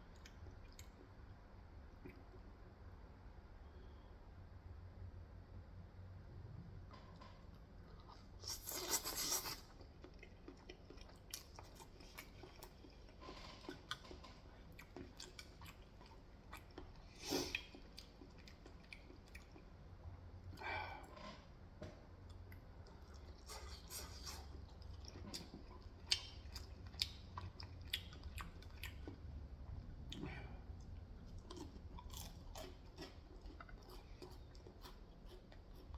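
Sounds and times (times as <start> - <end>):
chewing food: 0.0 - 2.5, 6.9 - 21.4, 22.2 - 35.9.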